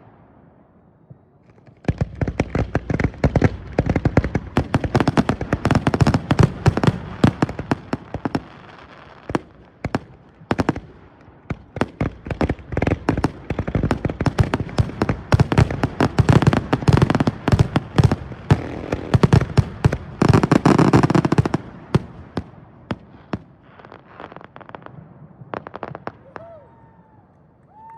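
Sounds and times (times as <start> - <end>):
fireworks bangs and crackles: 0.0 - 27.2.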